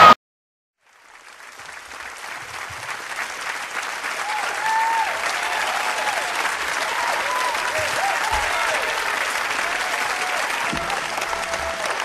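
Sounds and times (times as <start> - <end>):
crowd applauding and cheering: 0.8 - 12.0.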